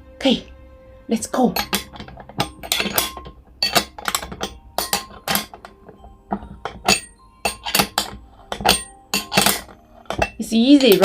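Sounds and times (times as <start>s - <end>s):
background music: 0.0s - 11.0s
metal parts clicking and clinking: 1.5s - 11.0s.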